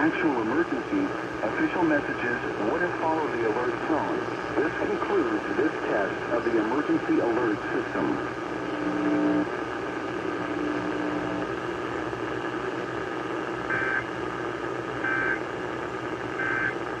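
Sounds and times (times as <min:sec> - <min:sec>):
radio static: 0:00.0 - 0:11.7, 0:14.9 - 0:17.0
faint steady hum: 0:00.0 - 0:17.0.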